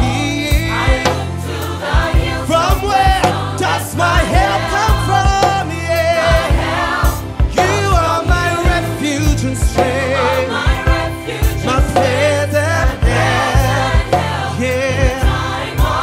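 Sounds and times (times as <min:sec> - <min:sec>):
bass line: 0:00.0 - 0:16.0
choir singing gospel: 0:00.0 - 0:16.0
drum beat: 0:00.0 - 0:16.0.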